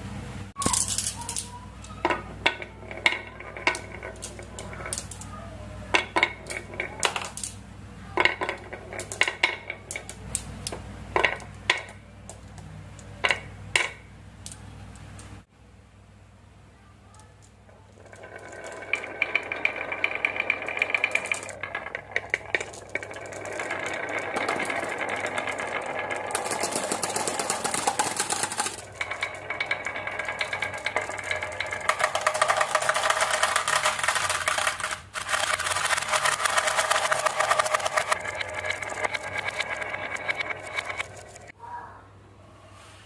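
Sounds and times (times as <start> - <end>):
marbles rattling down tracks: 0.6 - 7.6, 8.2 - 13.5, 17.2 - 41.6.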